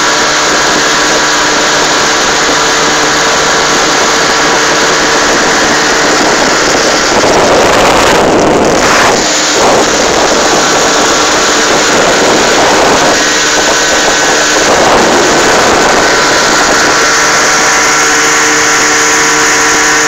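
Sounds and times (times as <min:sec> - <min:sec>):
outboard motor running: 0:00.0 - 0:20.0
rushing water: 0:00.0 - 0:20.0
wind noise: 0:00.0 - 0:20.0.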